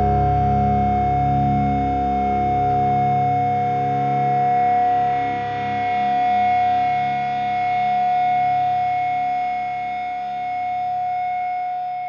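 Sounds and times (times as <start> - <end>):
distorted guitar: 0.0 - 12.0.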